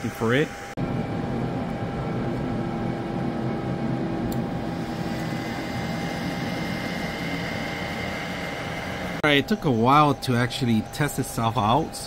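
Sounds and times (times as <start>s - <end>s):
high whine: 0.0s - 12.0s
printer fans and motors whirring: 0.0s - 12.0s.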